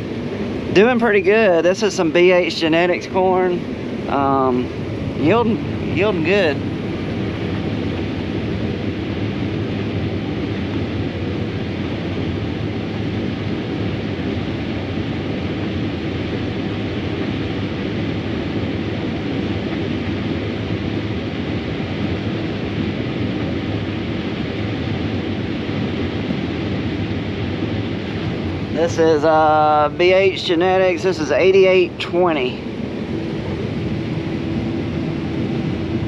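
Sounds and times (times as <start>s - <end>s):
combine harvester drone: 0.0s - 36.0s.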